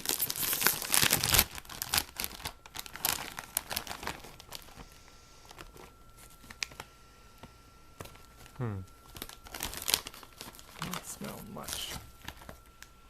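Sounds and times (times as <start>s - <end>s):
chip bag crinkling: 0.0s - 6.9s, 8.0s - 12.9s.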